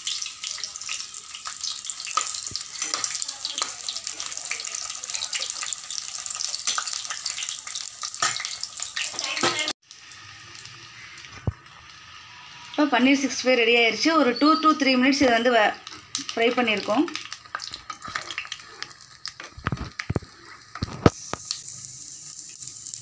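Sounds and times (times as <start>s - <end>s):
fainter steady sizzle: 0.0s - 23.0s
food deep-frying in hot oil: 0.0s - 23.0s.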